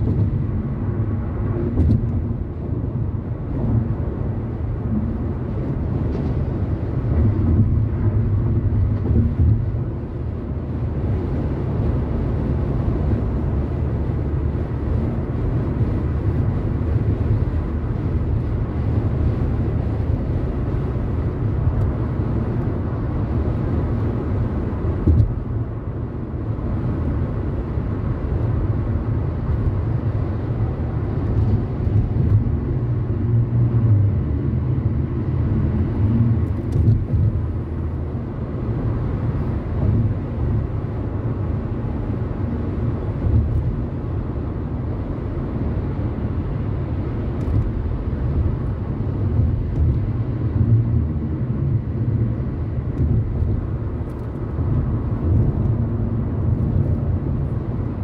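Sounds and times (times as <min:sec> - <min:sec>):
car driving on road: 0:00.0 - 0:58.0.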